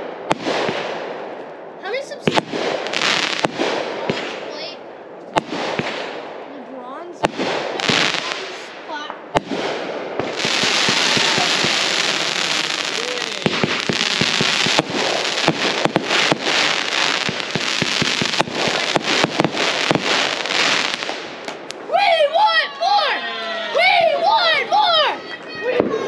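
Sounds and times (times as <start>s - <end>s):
fireworks popping: 0.0s - 6.5s, 7.2s - 21.9s
fireworks crackling: 0.0s - 22.5s.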